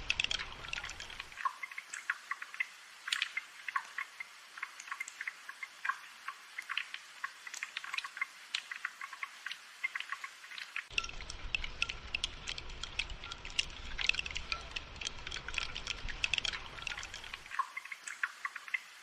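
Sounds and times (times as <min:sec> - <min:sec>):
light rain: 0:00.0 - 0:19.0.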